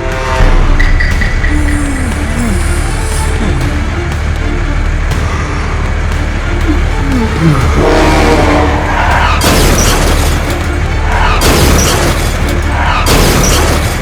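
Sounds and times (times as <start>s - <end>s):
music with heavy bass: 0.0s - 14.0s.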